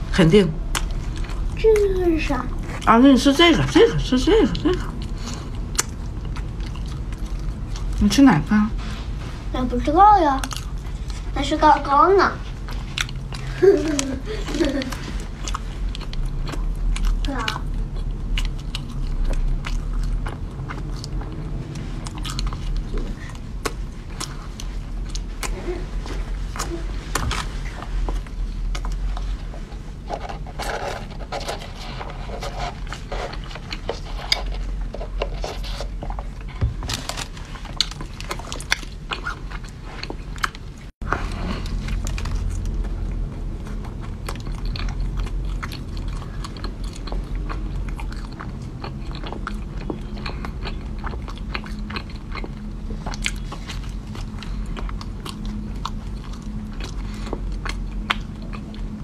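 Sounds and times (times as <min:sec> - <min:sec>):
chewing bread pastry: 0:00.0 - 0:59.0.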